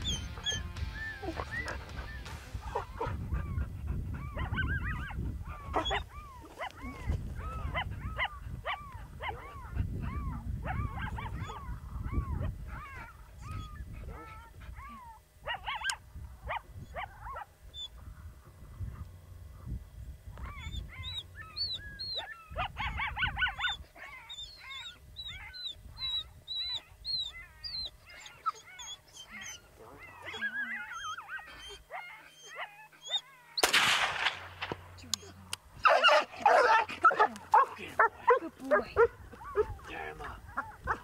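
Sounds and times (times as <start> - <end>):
low wind rumble on microphone: 0.0 - 28.2, 33.8 - 41.0
coyote barking and yipping: 0.0 - 41.0.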